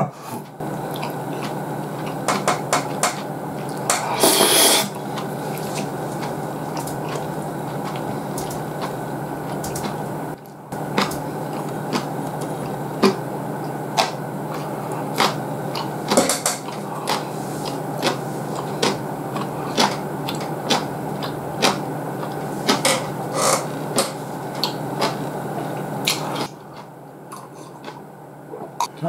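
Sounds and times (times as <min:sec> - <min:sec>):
low background hum: 0:00.0 - 0:29.0
person chewing noodles: 0:00.5 - 0:28.9.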